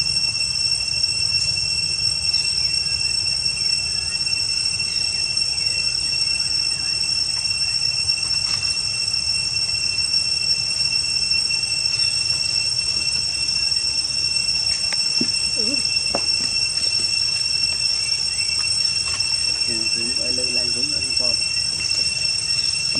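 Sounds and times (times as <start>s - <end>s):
high-pitched insect drone: 0.0s - 22.9s.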